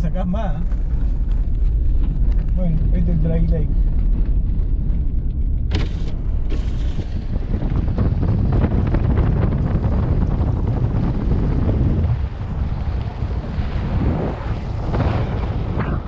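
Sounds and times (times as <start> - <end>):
car driving noise: 0.0 - 16.0
wind buffeting microphone: 0.0 - 16.0.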